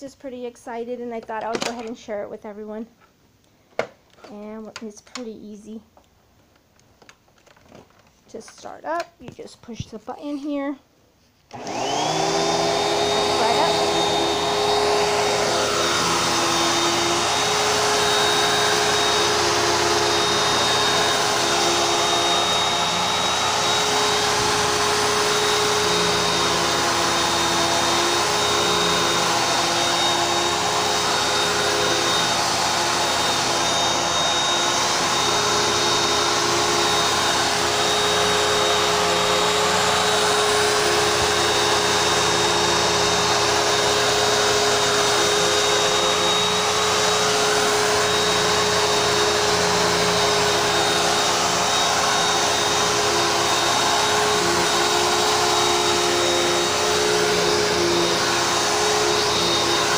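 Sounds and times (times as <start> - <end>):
vacuum cleaner running on carpet: 11.5 - 59.9.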